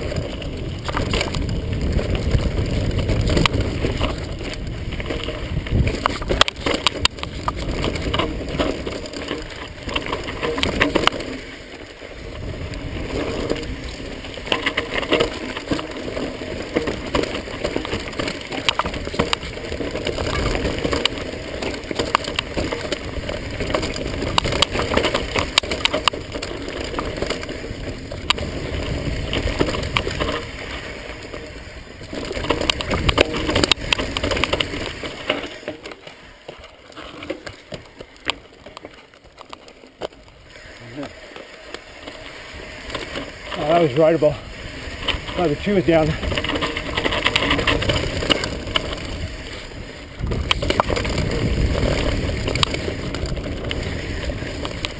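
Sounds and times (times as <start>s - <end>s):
bike rattling and clattering: 0.0s - 54.9s
bike tyres rolling and skidding on dirt: 0.0s - 54.9s.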